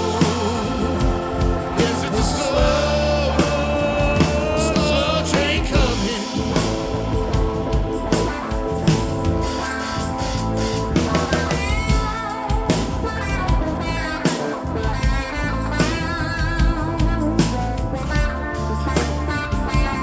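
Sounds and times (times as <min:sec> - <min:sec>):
lead line with bending notes: 0:00.0 - 0:20.0
rock band playing: 0:00.0 - 0:20.0.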